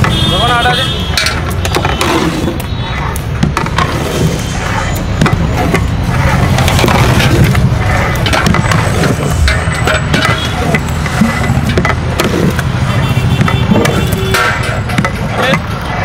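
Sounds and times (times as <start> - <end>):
road traffic: 0.0 - 16.0
metal paddle scraping a pot: 1.1 - 16.0.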